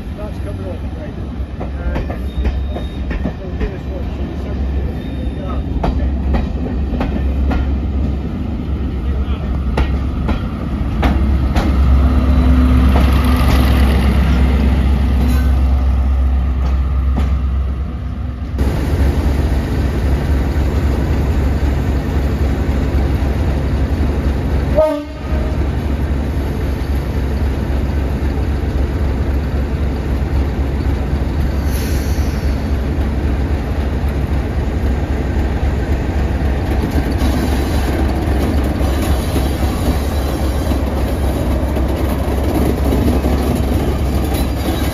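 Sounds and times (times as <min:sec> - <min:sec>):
diesel locomotive rumbling: 0:00.0 - 0:44.9.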